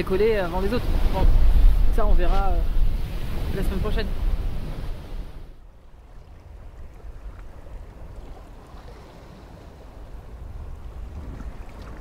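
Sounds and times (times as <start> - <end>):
sea wash: 0.0 - 12.0
wind rumble on microphone: 0.0 - 12.0.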